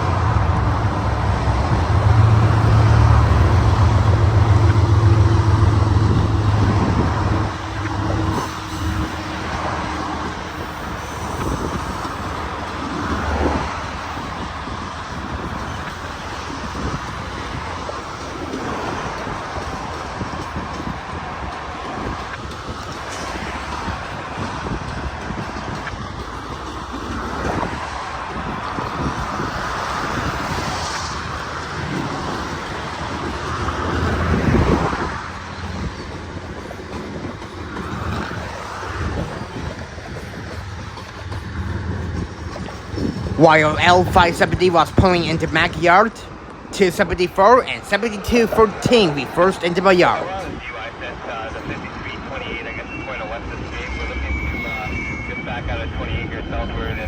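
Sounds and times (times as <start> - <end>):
train wheel noise: 0.0 - 47.6
freight train rumbling: 0.0 - 57.0.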